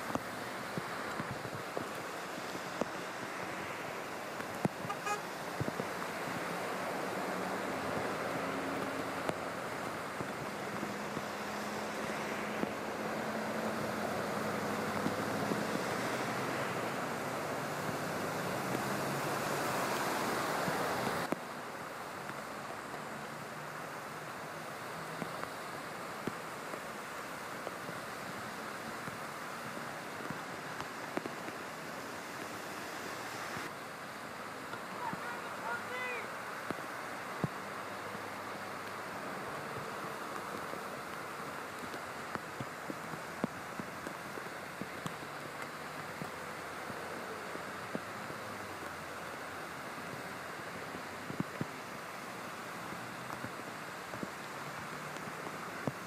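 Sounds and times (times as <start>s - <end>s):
traffic noise: 0.0s - 56.0s
water spray splashing: 0.0s - 56.0s.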